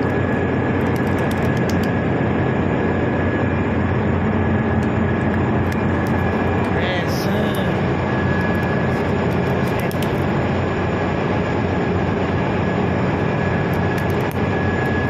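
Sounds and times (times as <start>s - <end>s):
engine-room machinery drone: 0.0s - 15.0s
high whine: 0.0s - 15.0s.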